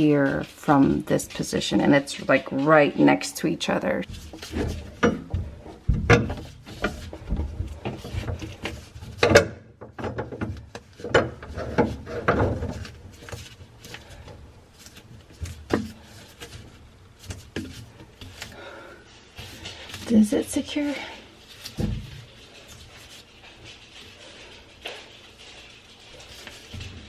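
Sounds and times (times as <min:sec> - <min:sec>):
drain pipe knocking and scraping: 0:00.0 - 0:18.8, 0:19.4 - 0:27.0.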